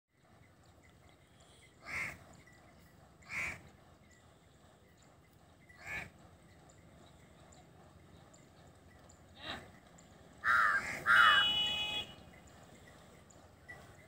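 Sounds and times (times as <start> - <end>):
bird calling: 0.6 - 14.0.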